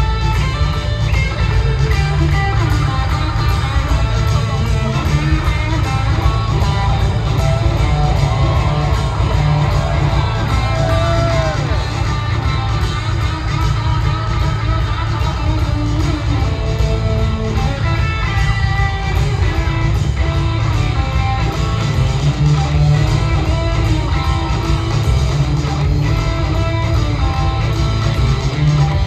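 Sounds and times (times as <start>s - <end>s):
bass guitar: 0.0s - 29.0s
drums: 0.0s - 29.0s
electric guitar: 0.0s - 29.0s.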